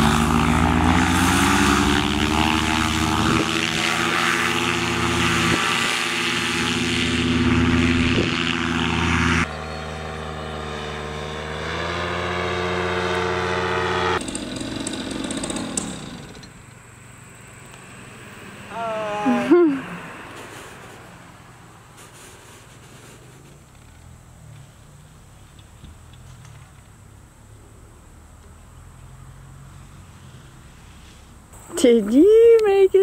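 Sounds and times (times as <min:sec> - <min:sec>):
paramotor engine droning: 0:00.0 - 0:32.7.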